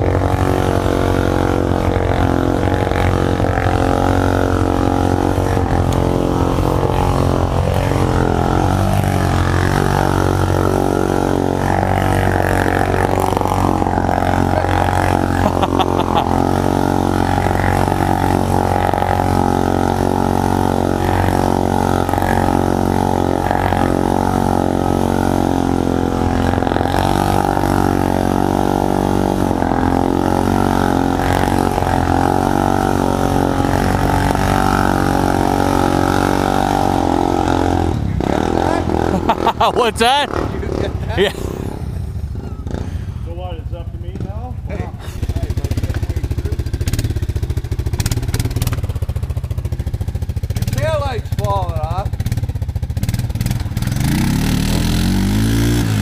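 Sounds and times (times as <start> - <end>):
atv engine idling: 0.0 - 56.0.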